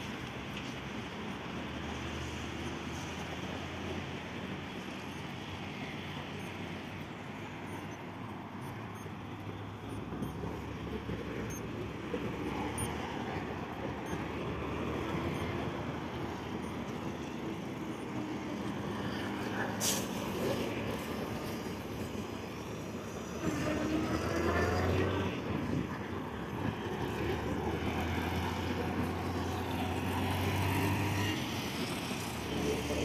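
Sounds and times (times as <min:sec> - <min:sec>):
cars passing by: 0:00.0 - 0:33.0.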